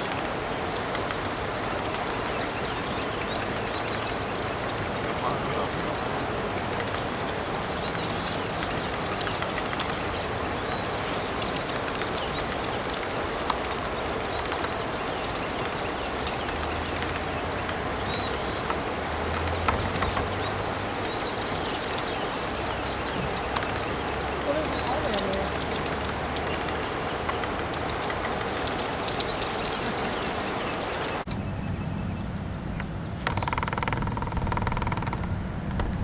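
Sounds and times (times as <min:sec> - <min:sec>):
floodwater rushing: 0:00.0 - 0:31.3
small birds chirping: 0:00.0 - 0:36.0.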